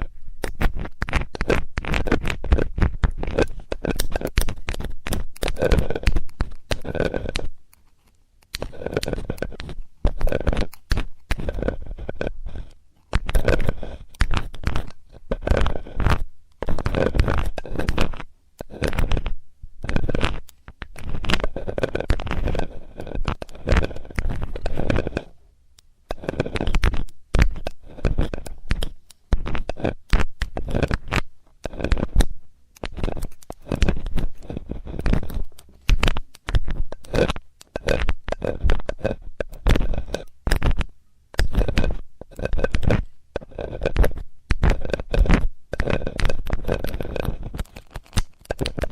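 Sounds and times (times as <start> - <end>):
metal tool scraping a microphone: 0.0 - 25.4, 26.1 - 48.9.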